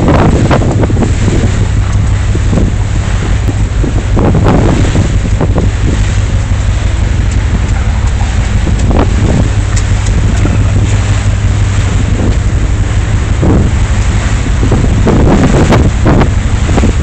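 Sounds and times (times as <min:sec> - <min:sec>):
steady low drone: 0:00.0 - 0:17.0
wind buffeting microphone: 0:00.0 - 0:17.0.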